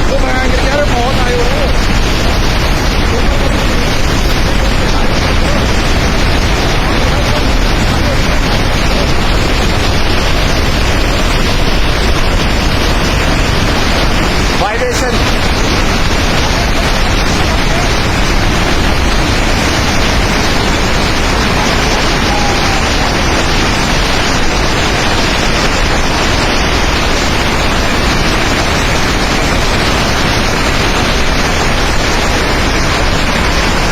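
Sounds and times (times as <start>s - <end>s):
river torrent rushing: 0.0s - 33.9s.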